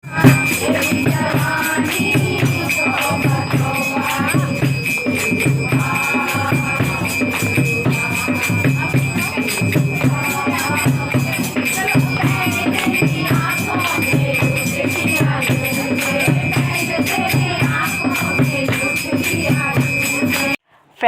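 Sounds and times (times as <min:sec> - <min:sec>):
jingling percussion: 0:00.0 - 0:20.6
steady drum beat: 0:00.0 - 0:20.6.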